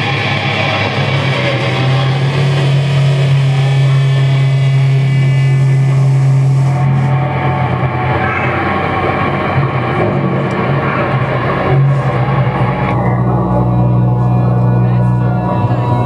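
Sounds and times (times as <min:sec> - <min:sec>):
distorted guitars droning: 0:00.0 - 0:16.0.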